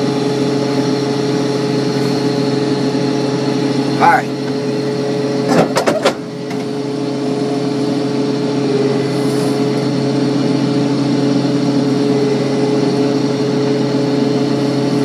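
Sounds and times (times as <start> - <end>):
combine harvester machinery drone: 0.0 - 15.0.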